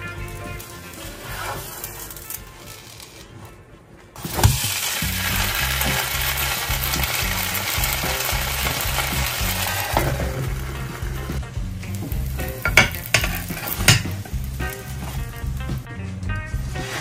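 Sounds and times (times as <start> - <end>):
background music with bass: 0.0 - 1.6, 4.2 - 17.0
omelette sizzling in a pan: 0.0 - 3.3, 4.2 - 15.8, 16.6 - 17.0.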